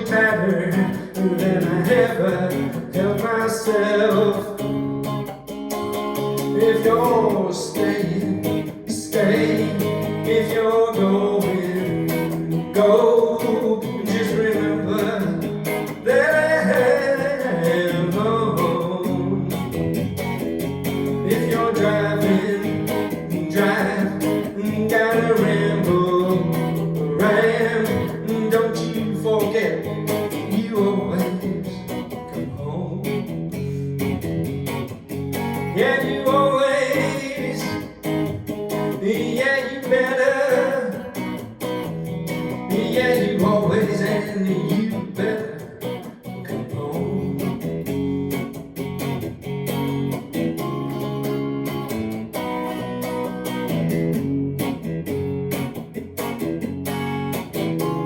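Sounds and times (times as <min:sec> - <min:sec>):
bending guitar melody: 0:00.0 - 0:58.0
strummed guitar chords: 0:00.0 - 0:58.0.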